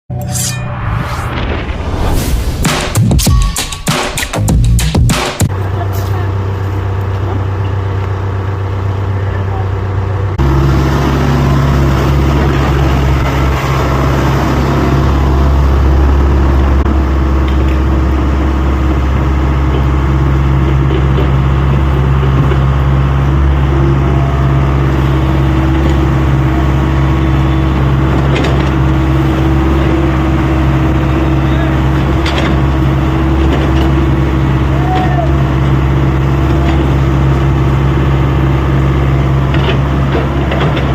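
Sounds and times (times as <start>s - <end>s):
excavator engine running: 1.4s - 40.9s.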